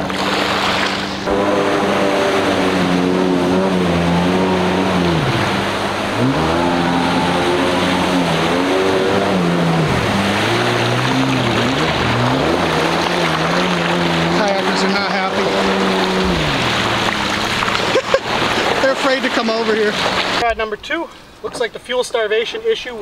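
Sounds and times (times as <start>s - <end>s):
jet ski engine revving: 0.0s - 20.5s.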